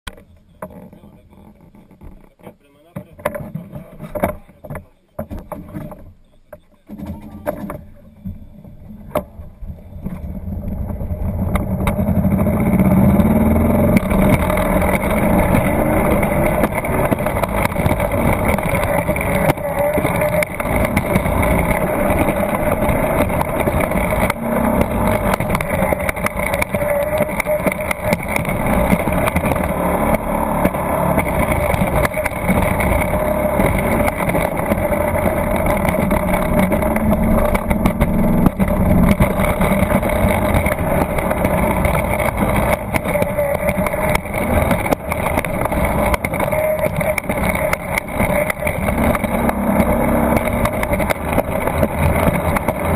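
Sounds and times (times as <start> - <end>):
sled wheels rumbling on track: 0.0 - 52.9
clicks of sled: 0.1 - 52.9.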